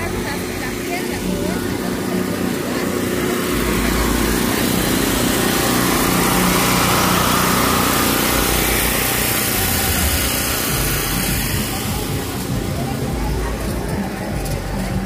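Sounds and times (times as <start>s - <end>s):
small motor humming: 0.1s - 13.6s.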